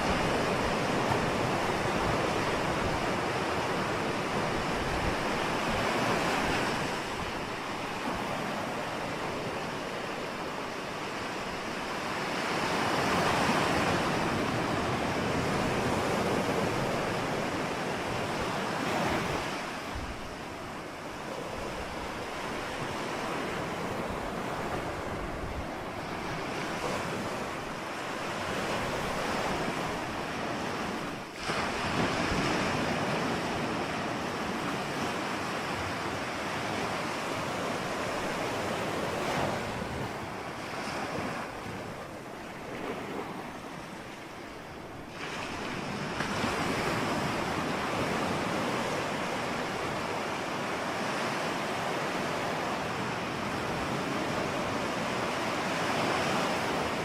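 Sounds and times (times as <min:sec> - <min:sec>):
ocean waves breaking on shore: 0:00.0 - 0:57.0
wind rumbling on microphone: 0:00.0 - 0:57.0.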